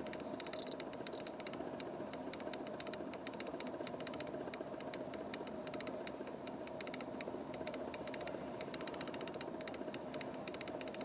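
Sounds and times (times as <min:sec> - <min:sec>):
steady whirring hum: 0:00.0 - 0:11.0.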